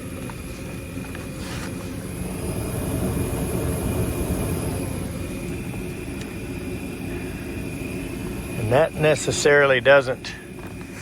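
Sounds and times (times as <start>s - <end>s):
furnace low rushing noise: 0.4s - 11.0s.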